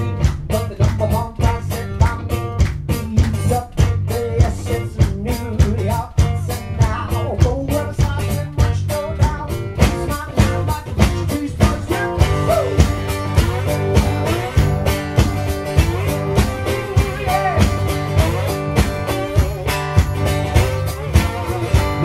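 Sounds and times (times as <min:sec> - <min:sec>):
blues-rock guitar: 0:00.0 - 0:22.0
drum beat: 0:00.0 - 0:22.0
person singing: 0:00.4 - 0:19.8, 0:20.6 - 0:22.0.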